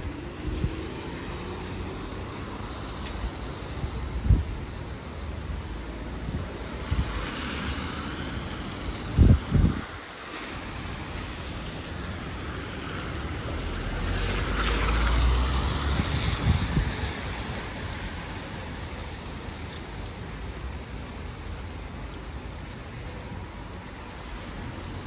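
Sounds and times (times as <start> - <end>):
tyres hissing on wet road: 0.0 - 25.0.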